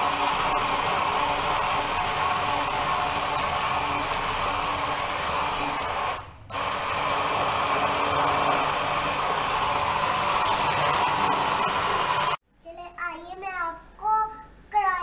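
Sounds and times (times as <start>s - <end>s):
electric hand blender running: 0.0s - 12.4s.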